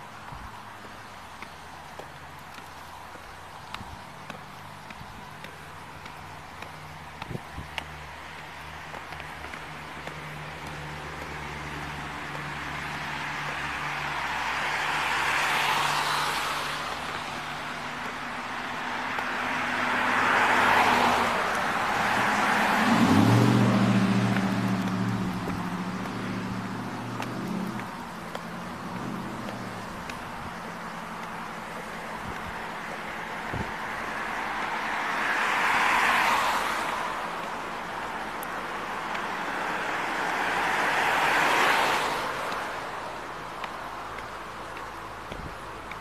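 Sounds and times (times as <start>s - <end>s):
vehicles passing by: 0.0s - 46.0s.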